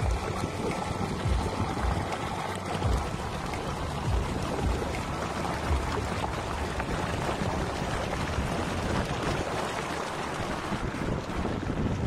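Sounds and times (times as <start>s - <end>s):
water gushing into a tank: 0.0s - 12.0s.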